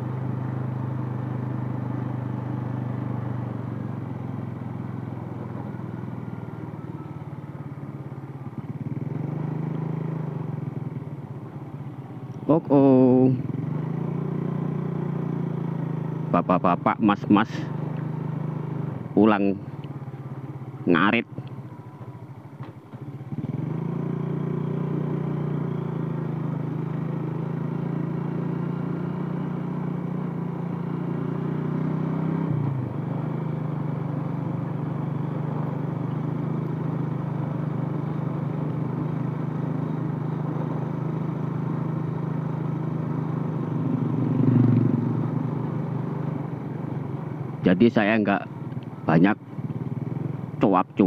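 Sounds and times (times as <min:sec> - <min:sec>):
small motorcycle engine running: 0:00.0 - 0:51.0.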